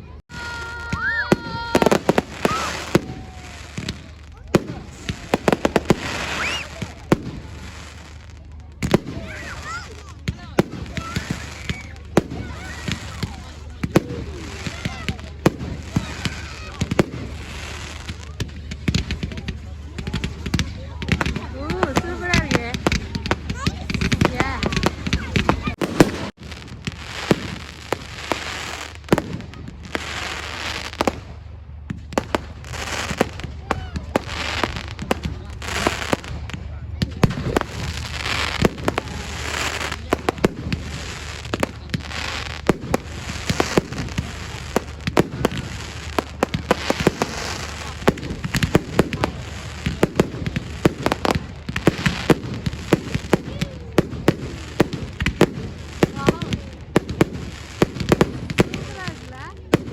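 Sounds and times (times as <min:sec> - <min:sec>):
crackling hiss of fireworks: 0:00.0 - 0:59.9.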